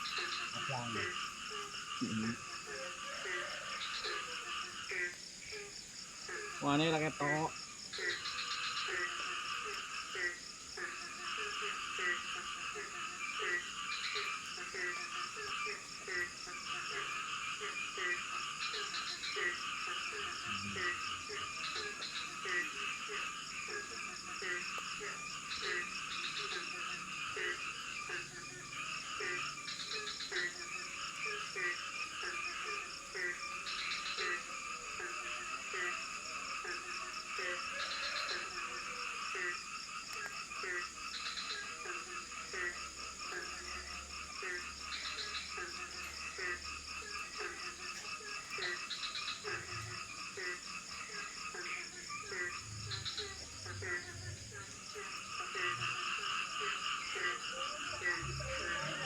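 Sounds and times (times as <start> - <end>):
frogs pulsing calls: 0.0 - 59.0
low frog croak: 0.0 - 59.0.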